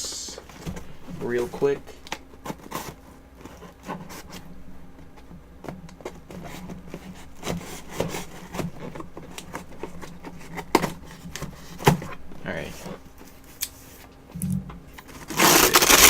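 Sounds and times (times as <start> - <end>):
cardboard rubbing and scraping: 0.5 - 4.7, 6.0 - 14.1, 15.1 - 16.0.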